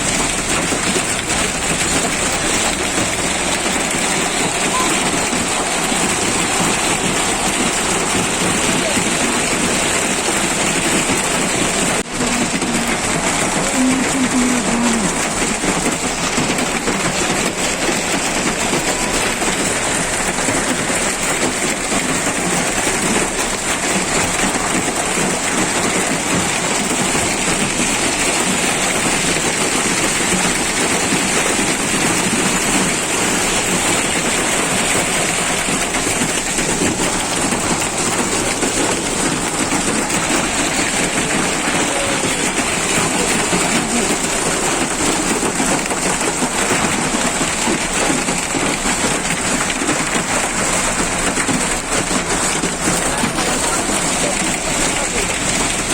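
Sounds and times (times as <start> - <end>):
hail and rain pelting: 0.0 - 55.9.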